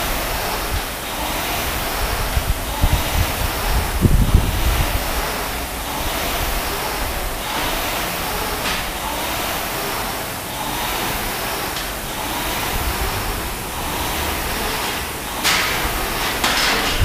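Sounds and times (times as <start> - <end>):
rowing machine fan whooshing: 0.0 - 17.0.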